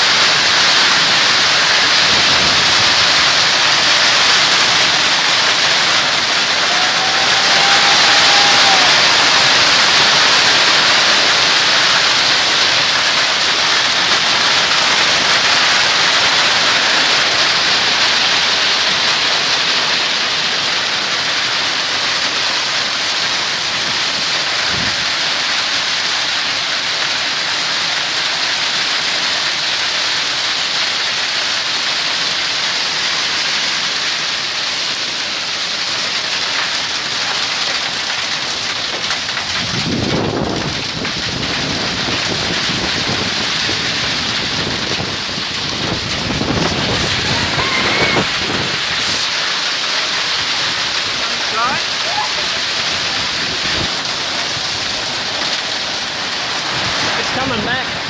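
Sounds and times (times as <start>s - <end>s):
torrential rain and hail: 0.0s - 58.0s.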